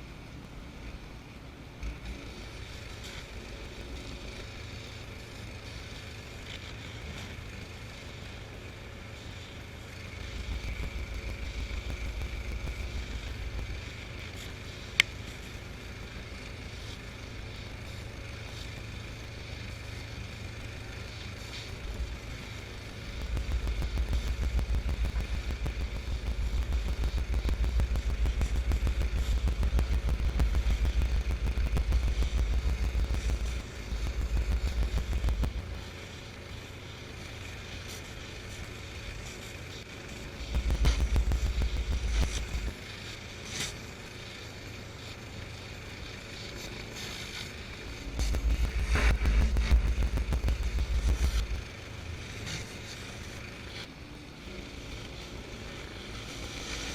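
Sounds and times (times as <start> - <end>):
pressure washer running: 2.1 - 56.9
surface cleaner spraying concrete: 2.1 - 56.9.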